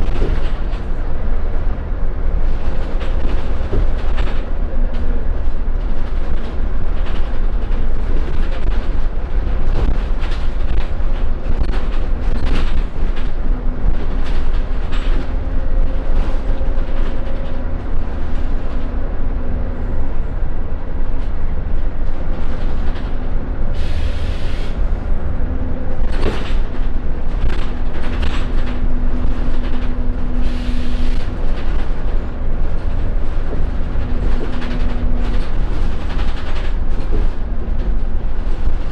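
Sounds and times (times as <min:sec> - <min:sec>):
bus body rattles and knocks: 0:00.0 - 0:38.9
bus diesel engine drone: 0:00.0 - 0:38.9
road rumble: 0:00.0 - 0:38.9.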